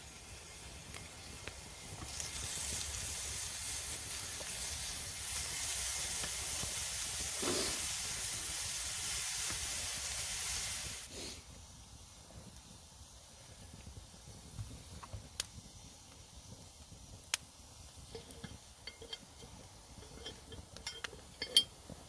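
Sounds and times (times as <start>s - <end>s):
cooking hiss over fire: 0.0s - 22.0s.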